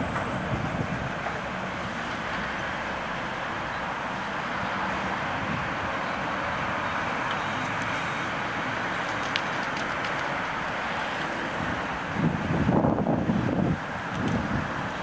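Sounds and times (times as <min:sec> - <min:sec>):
city road traffic noise: 0:00.0 - 0:15.0.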